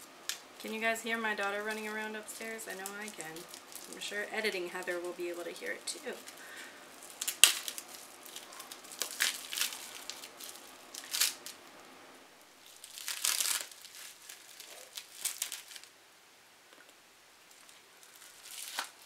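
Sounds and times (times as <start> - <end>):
paper crinkling and rustling: 0.0 - 11.6, 12.6 - 15.9, 17.5 - 19.0.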